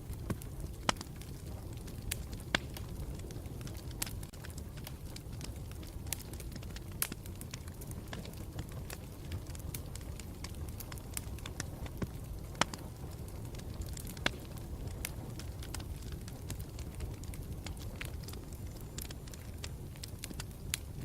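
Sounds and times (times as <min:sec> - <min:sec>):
burning wood crackling and popping: 0:00.0 - 0:21.0
campfire rumble: 0:00.0 - 0:21.0.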